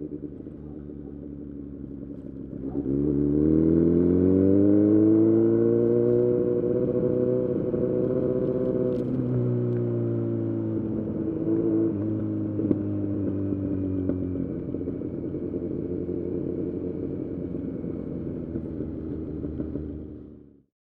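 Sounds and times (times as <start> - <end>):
motorcycle engine revving: 0.0 - 20.5.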